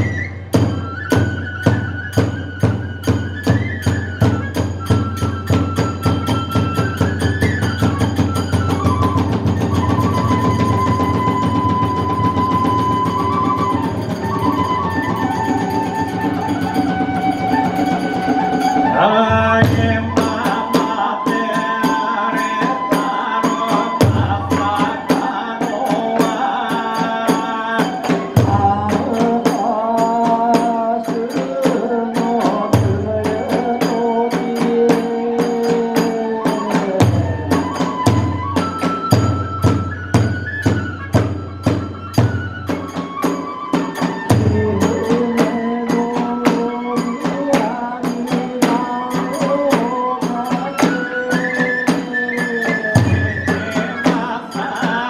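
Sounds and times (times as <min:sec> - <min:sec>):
bamboo flute sliding notes: 0:00.0 - 0:55.0
small hand cymbals beating: 0:00.0 - 0:55.0.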